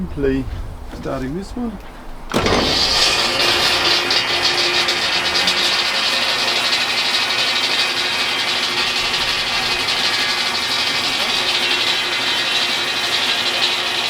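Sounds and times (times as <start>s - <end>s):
circular saw running: 2.3s - 14.0s.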